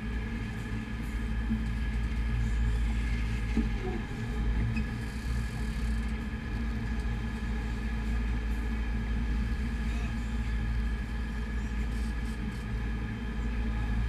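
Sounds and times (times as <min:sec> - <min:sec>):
boat engines droning: 0:00.0 - 0:14.0.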